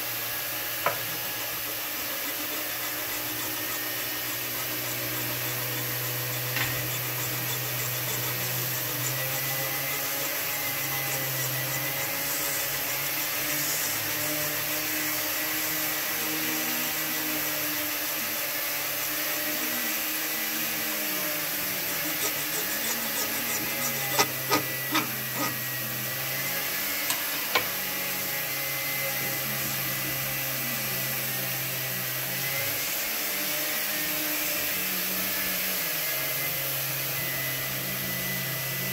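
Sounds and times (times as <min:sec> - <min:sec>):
small electric motor whirring: 0:00.0 - 0:38.9.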